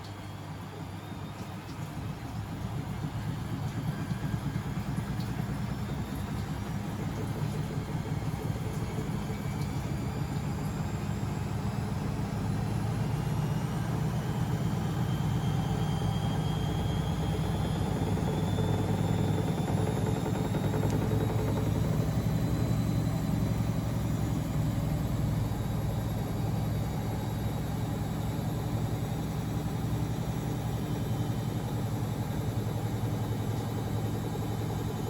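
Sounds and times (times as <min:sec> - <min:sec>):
washing machine drum spinning up: 0:00.0 - 0:35.0.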